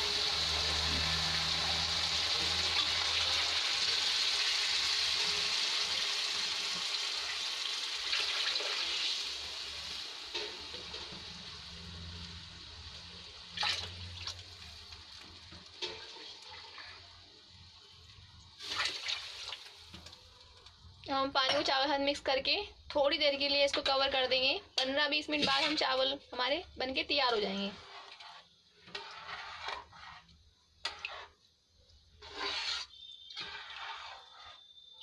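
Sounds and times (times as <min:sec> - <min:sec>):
rice sizzling and bubbling in oil: 0:00.0 - 0:35.0.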